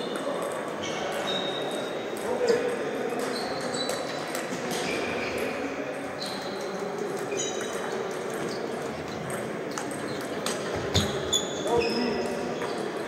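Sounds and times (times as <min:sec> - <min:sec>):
faint chatter: 0:00.0 - 0:13.0
sports hall background: 0:00.0 - 0:13.0.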